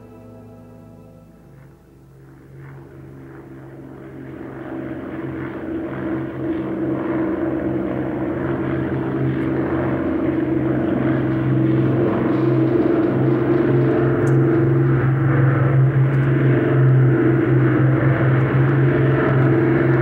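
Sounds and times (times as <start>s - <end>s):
low rumbling orchestral drone: 0.0s - 20.0s.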